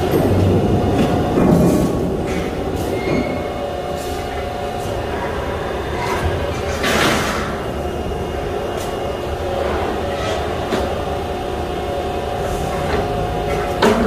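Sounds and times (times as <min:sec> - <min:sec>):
shop machinery humming: 0:00.0 - 0:14.0.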